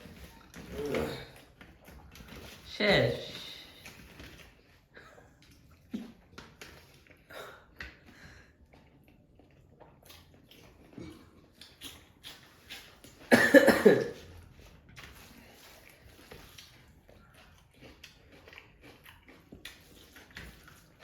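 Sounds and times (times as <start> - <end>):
person chewing: 0.0 - 2.6, 3.3 - 13.3, 14.1 - 21.0.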